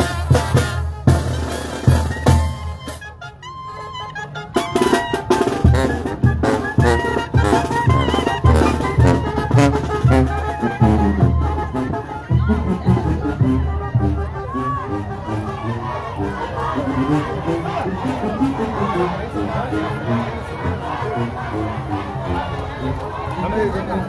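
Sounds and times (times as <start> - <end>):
marching brass band playing: 0.0 - 24.0.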